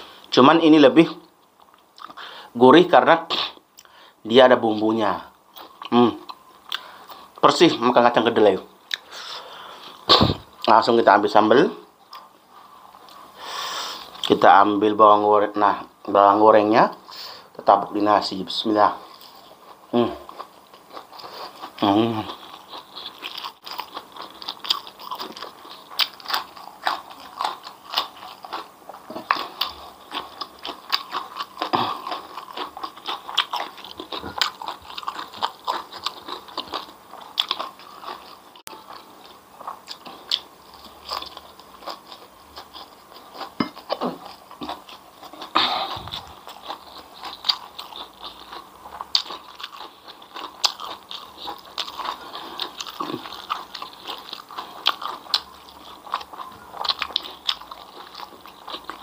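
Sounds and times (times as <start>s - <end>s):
chewing crisp food: 0.0s - 2.4s, 3.0s - 59.0s.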